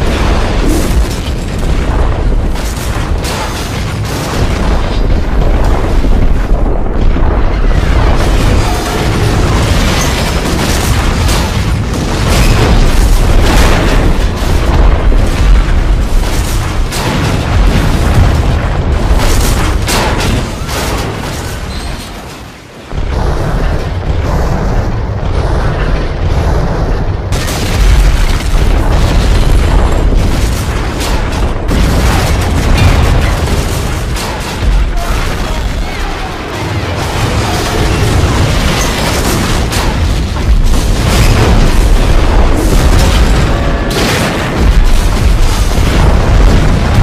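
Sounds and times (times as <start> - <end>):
weapons fire and explosions: 0.0 - 47.0.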